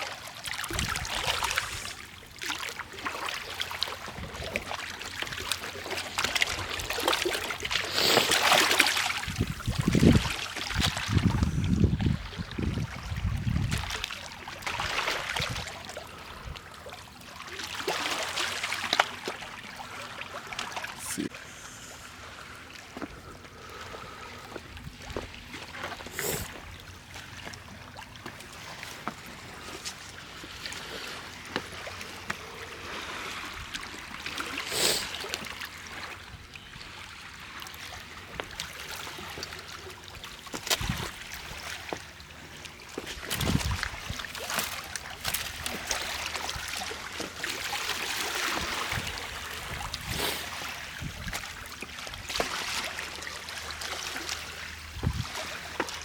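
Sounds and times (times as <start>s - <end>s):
river waves lapping at shore: 0.0s - 56.0s.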